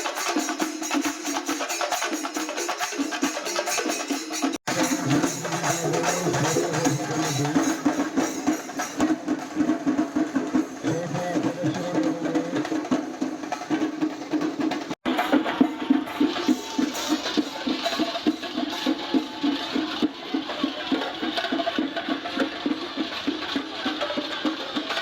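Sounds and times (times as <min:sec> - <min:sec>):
drums and cymbals playing fast rhythm: 0:00.0 - 0:25.0.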